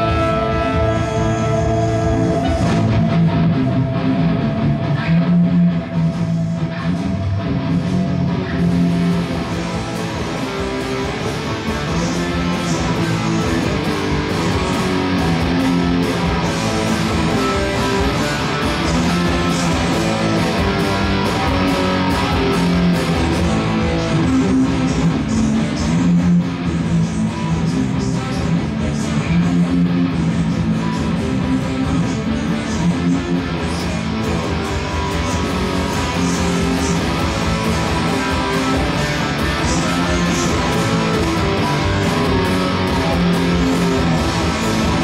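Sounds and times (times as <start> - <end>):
electric guitar strumming punk chords: 0.0 - 45.0
rock music: 0.0 - 45.0.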